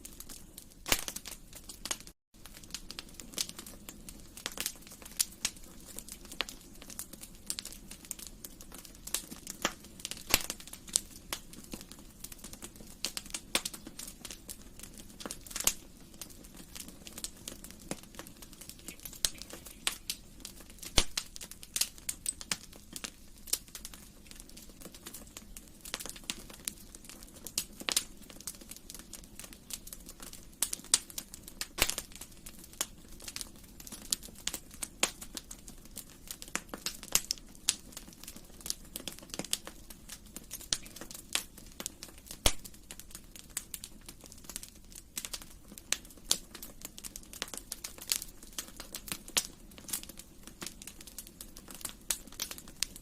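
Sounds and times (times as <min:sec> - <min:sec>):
soft noise of burning: 0:00.0 - 0:53.0
wood fire crackling: 0:00.0 - 0:53.0.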